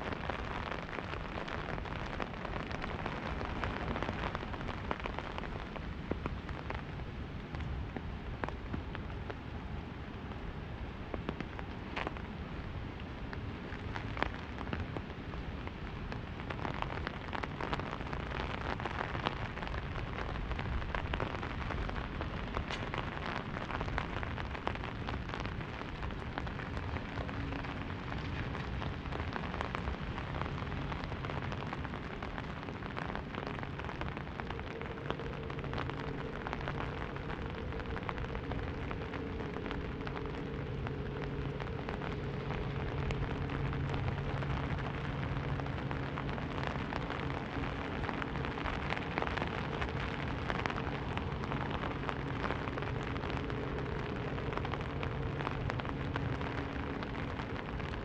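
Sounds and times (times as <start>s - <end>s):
faint low hum: 0.0s - 58.0s
rain pattering on umbrella: 0.0s - 58.0s.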